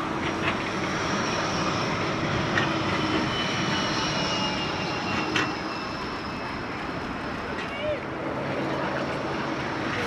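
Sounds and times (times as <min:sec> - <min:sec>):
tram running with electric whine: 0:00.0 - 0:10.0
wheels clicking on rails: 0:00.0 - 0:10.0.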